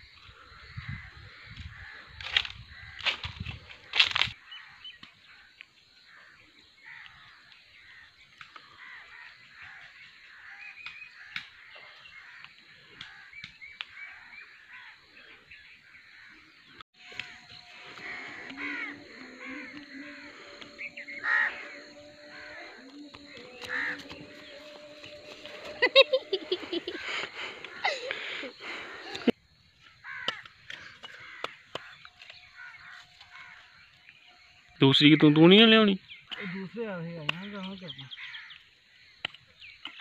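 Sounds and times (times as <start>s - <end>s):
birds chirping: 3.8s - 40.0s.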